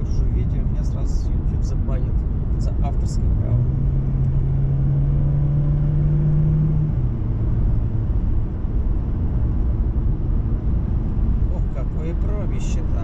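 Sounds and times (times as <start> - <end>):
car rumble: 0.0 - 13.0.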